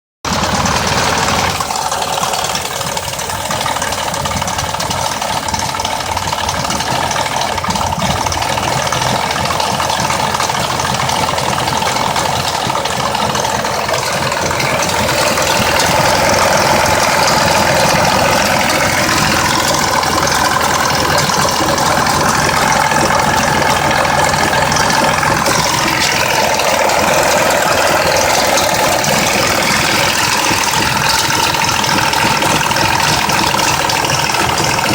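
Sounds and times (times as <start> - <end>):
car engine idling roughly: 0.2 - 34.9
ticking rattle: 0.3 - 34.9.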